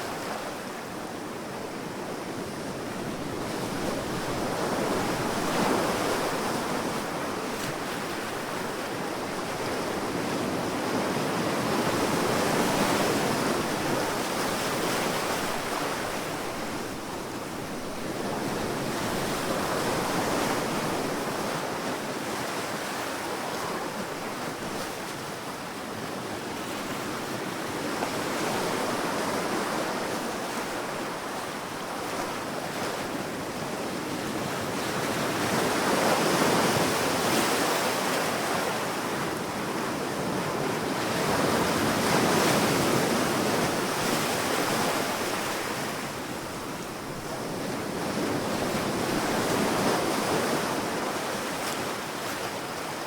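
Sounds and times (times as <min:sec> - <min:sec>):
waves breaking on sandy beach: 0:00.0 - 0:53.0.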